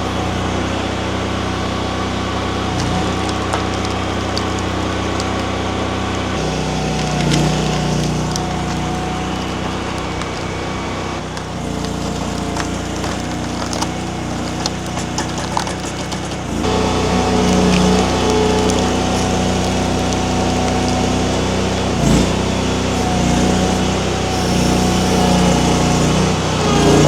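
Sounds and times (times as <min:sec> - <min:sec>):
skid steer engine running: 0:00.0 - 0:27.0
wood cracking as it splits: 0:00.0 - 0:27.0.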